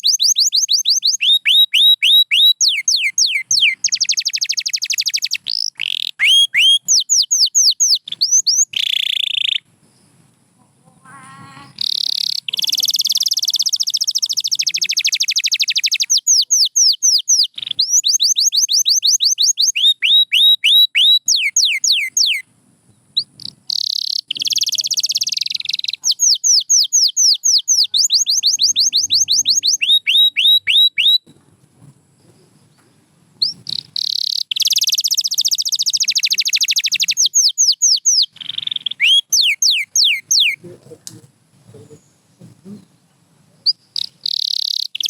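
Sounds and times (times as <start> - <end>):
canary singing: 0.0 - 9.7, 10.9 - 22.5, 23.2 - 31.3, 32.8 - 41.0, 43.6 - 45.0.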